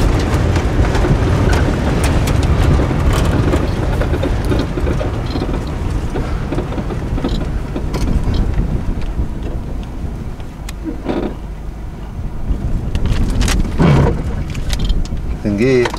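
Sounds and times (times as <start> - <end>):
short rattles: 0.0 - 9.9, 12.9 - 15.9
car engine rumble: 0.0 - 15.9
tyre noise: 0.0 - 15.9
wind noise: 0.0 - 15.9.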